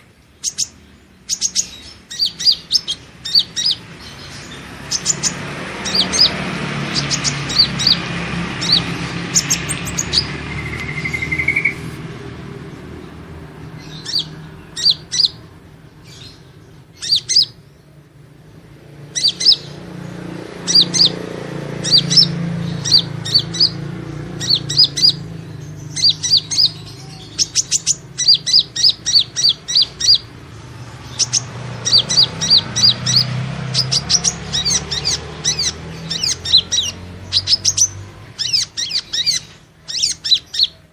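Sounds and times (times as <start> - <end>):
high-pitched bird chirps: 0.0 - 12.0, 13.7 - 17.9, 19.0 - 19.9, 20.6 - 40.9.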